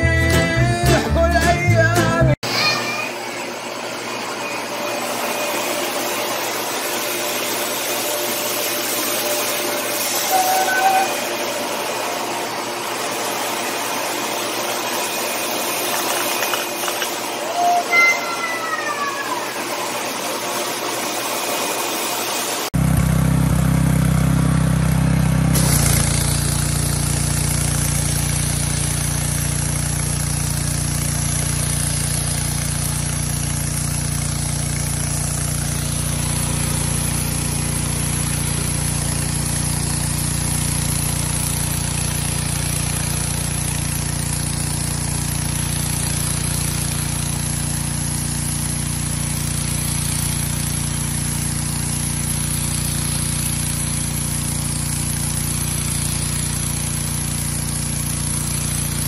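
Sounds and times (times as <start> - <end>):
pressure washer engine drone: 0.0 - 59.0
water jet hissing: 5.1 - 11.6, 14.8 - 22.6, 25.6 - 59.0.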